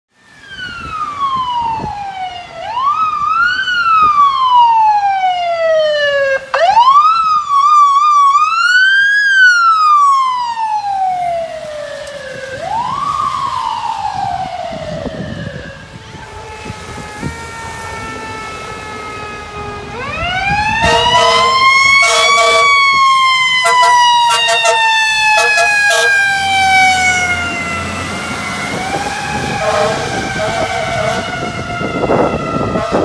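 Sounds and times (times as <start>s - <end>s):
mechanical siren wailing: 0.3s - 33.0s.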